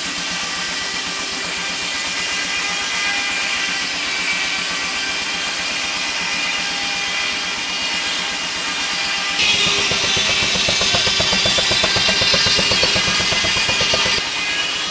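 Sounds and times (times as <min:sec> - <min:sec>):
circular saw blade sawing log: 0:00.0 - 0:14.9.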